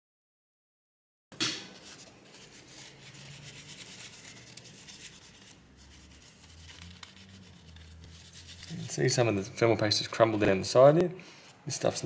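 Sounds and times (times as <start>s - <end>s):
paper scratchy wiping: 1.7s - 12.0s.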